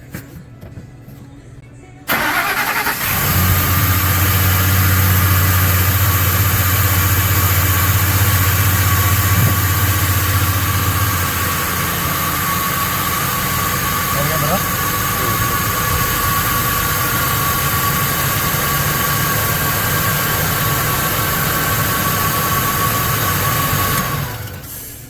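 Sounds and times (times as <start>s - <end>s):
engine cranking: 2.1s - 24.8s
engine idling: 2.1s - 25.0s.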